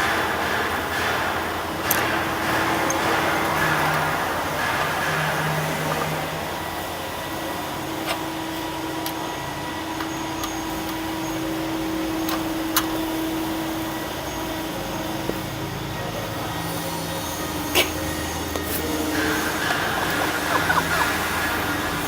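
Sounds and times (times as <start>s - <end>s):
mechanical whirring hum: 0.0s - 22.0s.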